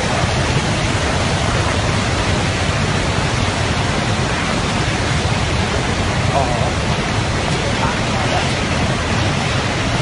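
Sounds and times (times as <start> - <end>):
fast-flowing water rushing: 0.0 - 10.0.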